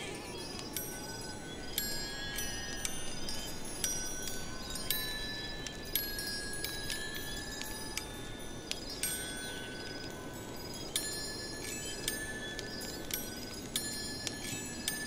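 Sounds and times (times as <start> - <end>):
chimes tinkling: 0.0 - 15.0
steady low hiss: 0.0 - 15.0.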